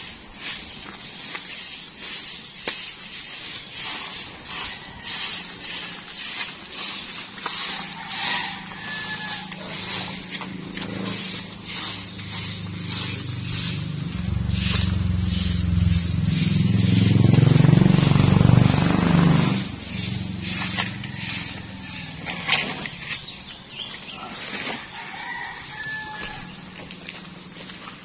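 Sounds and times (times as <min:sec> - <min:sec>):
vehicle engine hum: 0:00.0 - 0:24.3, 0:25.4 - 0:28.0
footsteps crunching on gravel: 0:00.0 - 0:28.0.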